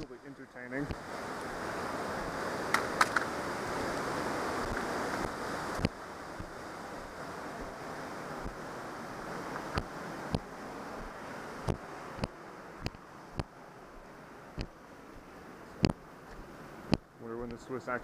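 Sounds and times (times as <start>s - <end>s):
river and waterfall rushing: 0.0s - 18.0s.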